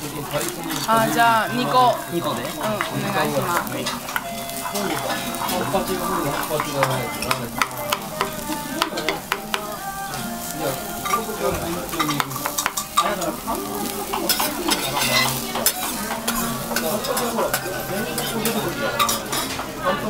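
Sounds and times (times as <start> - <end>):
batter sizzling on griddle: 0.0 - 20.0.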